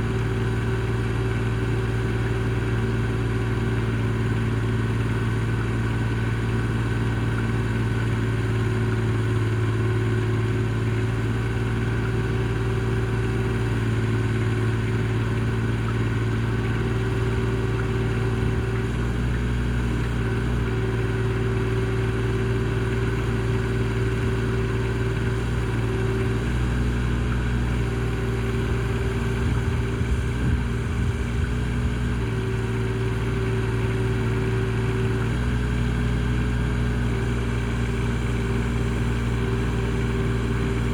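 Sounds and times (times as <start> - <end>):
mini excavator engine running: 0.0 - 40.9.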